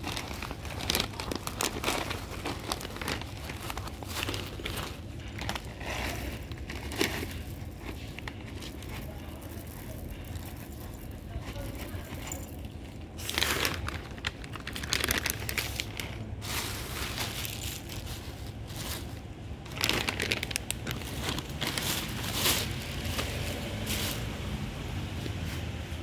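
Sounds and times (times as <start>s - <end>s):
cats crunching dry kibble: 0.0s - 24.4s.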